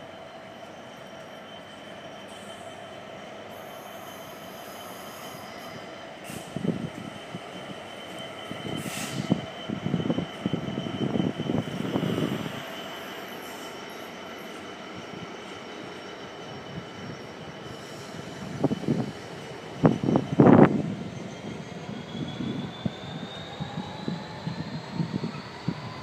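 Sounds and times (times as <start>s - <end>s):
freight train passing: 0.0s - 26.0s.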